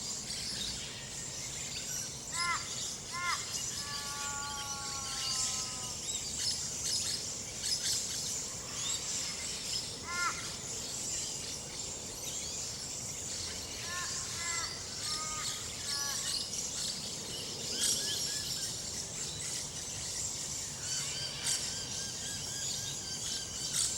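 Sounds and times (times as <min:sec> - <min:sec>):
birds singing and calling: 0:00.0 - 0:23.9.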